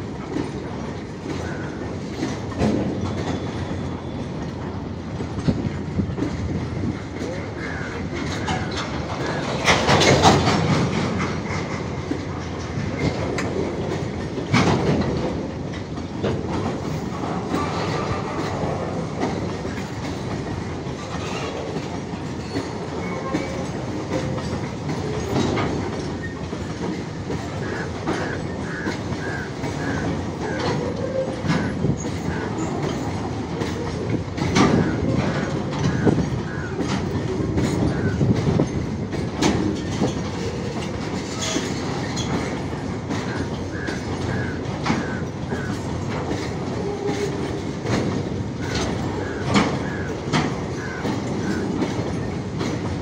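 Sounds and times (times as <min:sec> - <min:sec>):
train wheels clattering over rails: 0:00.0 - 0:53.0.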